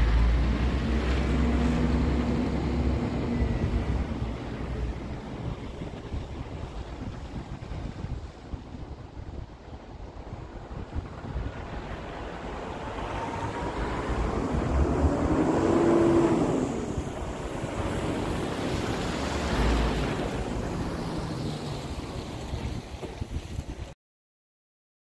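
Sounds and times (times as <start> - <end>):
truck diesel engine passing: 0.0 - 7.7, 10.1 - 23.0.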